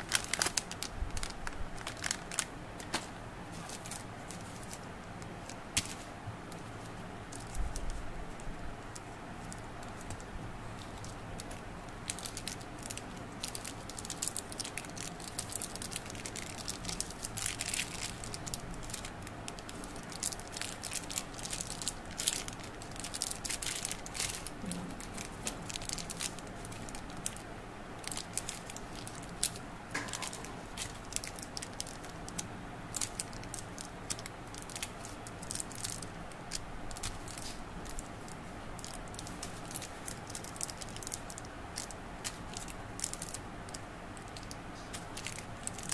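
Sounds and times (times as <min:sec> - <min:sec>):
plastic wrappers crinkling: 0:00.0 - 0:45.9.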